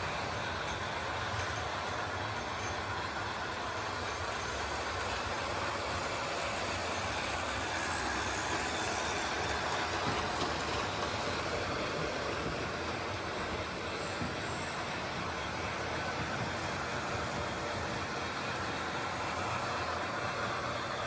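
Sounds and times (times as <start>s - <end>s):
model train wheels rumbling on rails: 0.0s - 21.0s.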